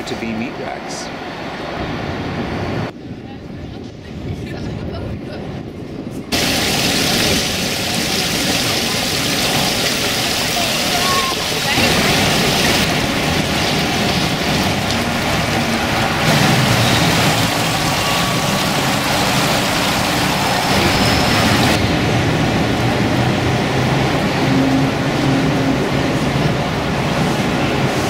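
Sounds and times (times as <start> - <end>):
city traffic noise: 0.0 - 28.0.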